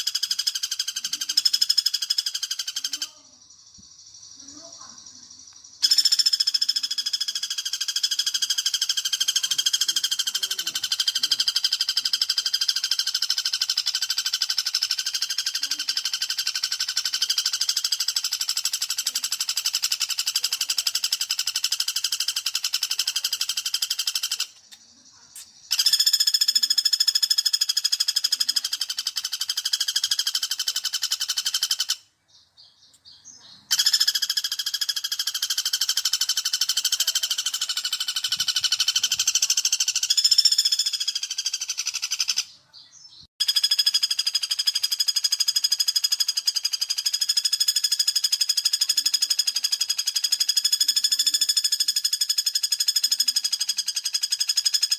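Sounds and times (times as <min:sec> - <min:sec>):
woodpecker rattling trill: 0:00.0 - 0:54.9.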